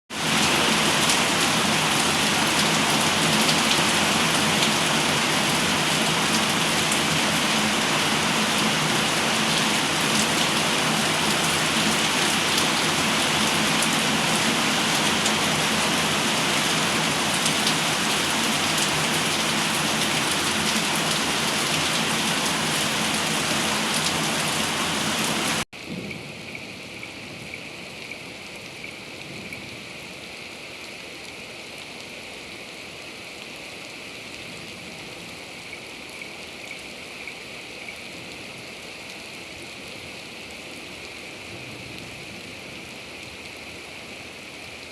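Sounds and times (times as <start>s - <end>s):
heavy rain falling: 0.1s - 44.9s.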